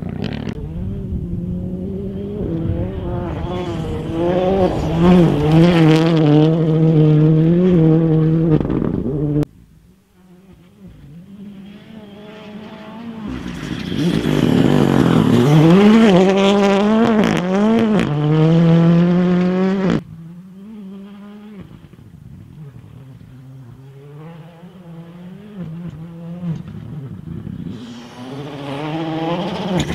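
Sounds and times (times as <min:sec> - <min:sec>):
rally car engine revving: 0:00.0 - 0:09.5, 0:10.2 - 0:29.9.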